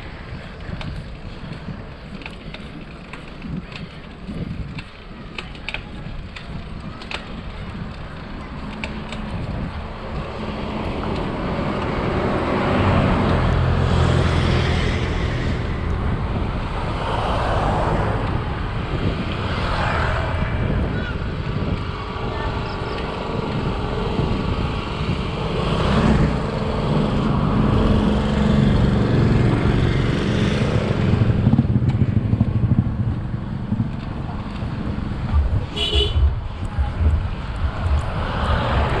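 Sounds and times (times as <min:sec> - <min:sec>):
vehicle engines passing: 0:00.0 - 0:39.0.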